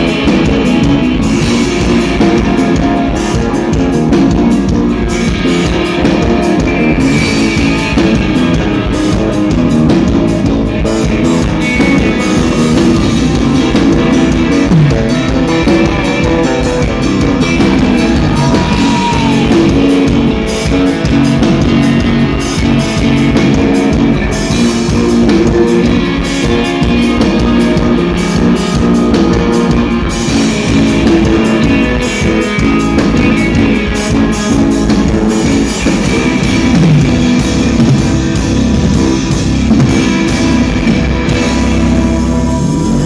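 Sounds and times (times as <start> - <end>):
bass guitar: 0.0 - 43.0
distorted electric guitars: 0.0 - 43.0
drum kit: 0.0 - 43.0.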